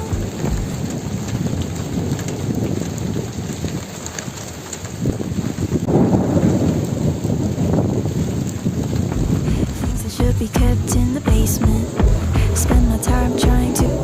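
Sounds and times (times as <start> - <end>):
heavy rain falling: 0.0 - 14.0
low thunder rumble: 0.0 - 14.0.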